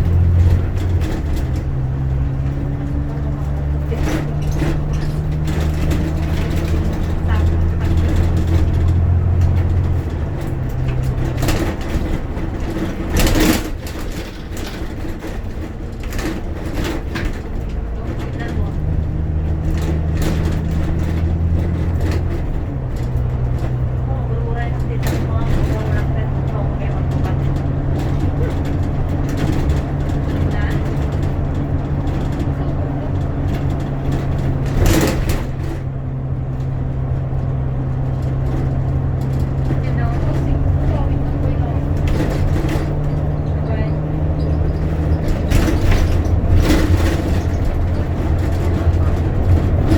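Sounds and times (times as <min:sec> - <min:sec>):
bus engine with road noise: 0:00.0 - 0:49.9.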